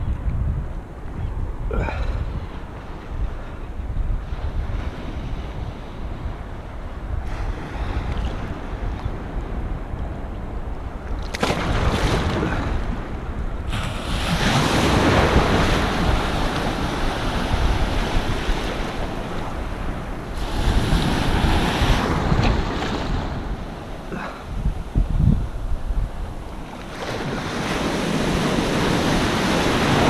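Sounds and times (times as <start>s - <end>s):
wind buffeting microphone: 0.0s - 30.0s
surf washing in: 1.7s - 30.0s.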